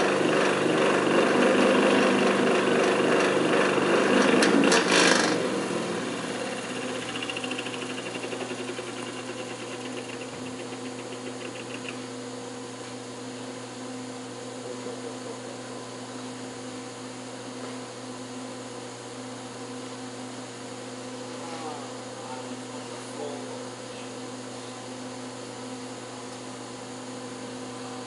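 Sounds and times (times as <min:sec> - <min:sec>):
electric fan motor rattling and humming: 0:00.0 - 0:28.0.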